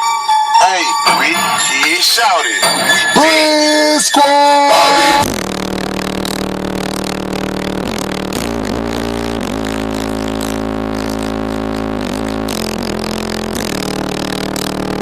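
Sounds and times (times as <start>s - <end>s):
bass-heavy music through subwoofer: 0.0s - 15.0s.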